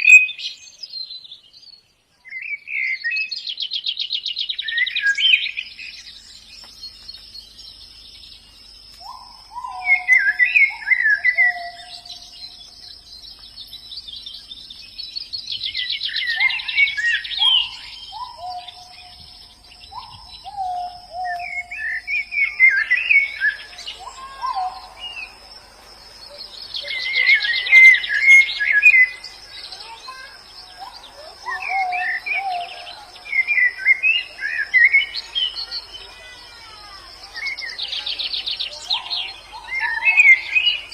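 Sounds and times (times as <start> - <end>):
birds twittering and trilling: 0.0 - 40.9
high insect drone: 4.2 - 40.9.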